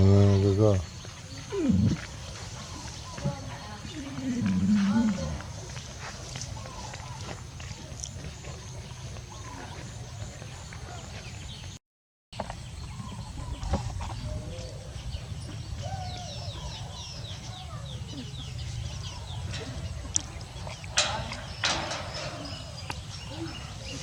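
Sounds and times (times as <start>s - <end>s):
birds calling: 0.0s - 11.8s, 12.4s - 24.0s.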